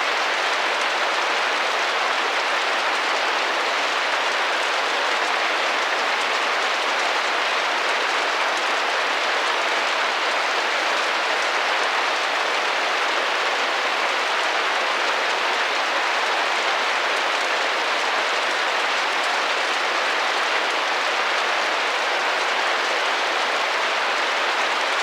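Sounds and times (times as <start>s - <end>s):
rain pattering on window: 0.0s - 25.0s.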